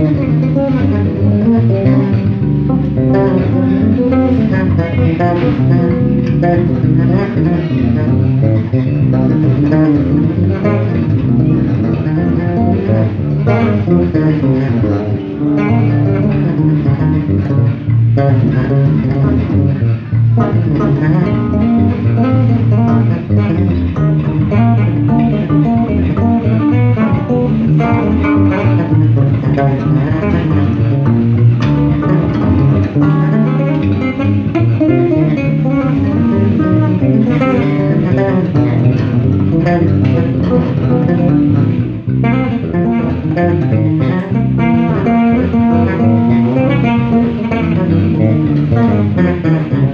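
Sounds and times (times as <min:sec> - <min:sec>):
electric bass guitars jamming: 0:00.0 - 0:49.9.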